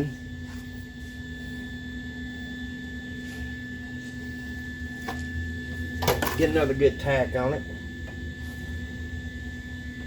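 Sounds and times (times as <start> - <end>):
mechanical hum with high whine: 0.0 - 10.0.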